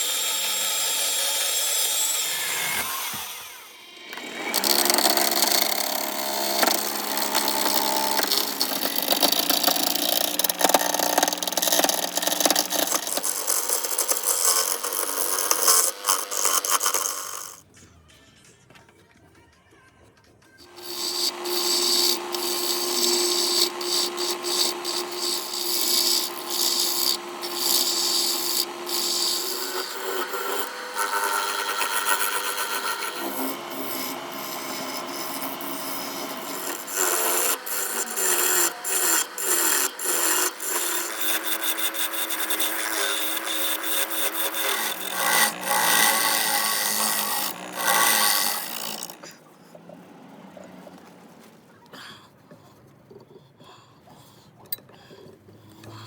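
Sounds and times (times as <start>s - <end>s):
lathe tool cutting wood: 0.0s - 17.6s, 20.6s - 51.4s
steady lathe hum: 0.0s - 17.6s, 20.6s - 51.7s.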